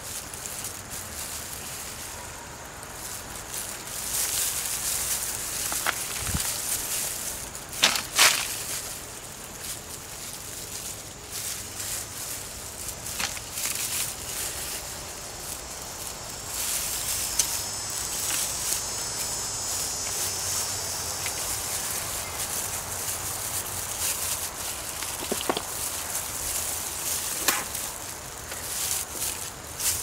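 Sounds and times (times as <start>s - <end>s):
faint insect buzz: 0.0s - 30.0s
hands digging through soil: 0.0s - 30.0s.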